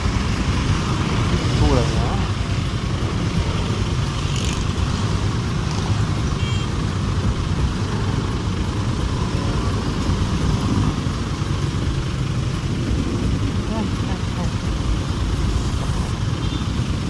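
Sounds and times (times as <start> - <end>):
motorcycle engine: 0.0 - 17.0
road noise: 0.0 - 17.0.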